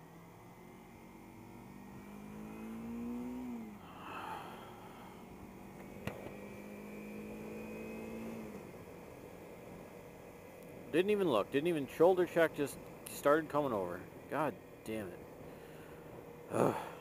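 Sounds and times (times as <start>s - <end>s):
motorcycle engine accelerating: 0.0s - 13.3s, 13.9s - 17.0s.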